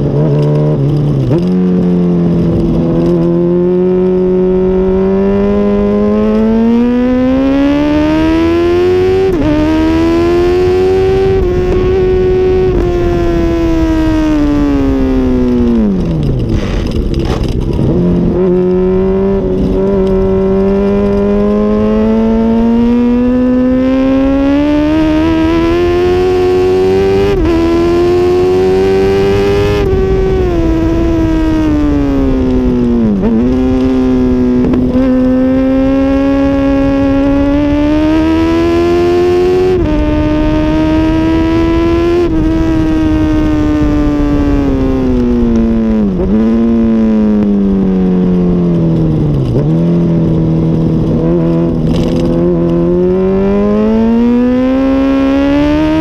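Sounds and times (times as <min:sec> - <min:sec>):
motorcycle engine revving with gear shifts: 0:00.0 - 0:56.0
wind noise rushing: 0:02.2 - 0:56.0.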